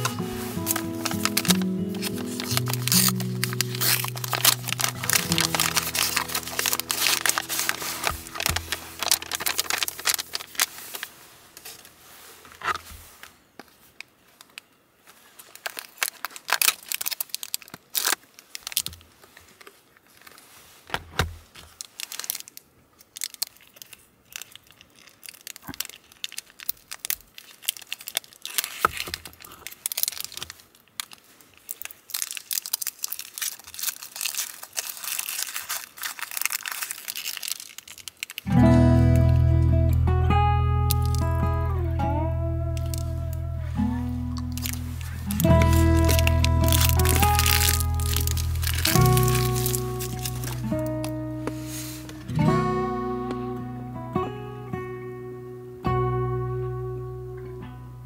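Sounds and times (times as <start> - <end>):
plastic and foil wrapper crinkling: 0.0 - 57.6.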